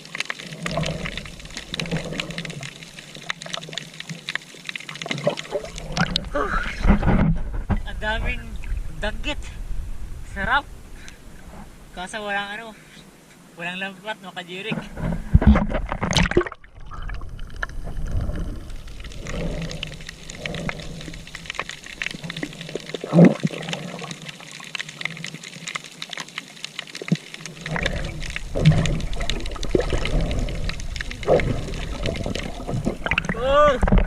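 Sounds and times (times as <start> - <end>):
sea water sloshing and gurgling: 0.0 - 12.1, 14.8 - 34.0.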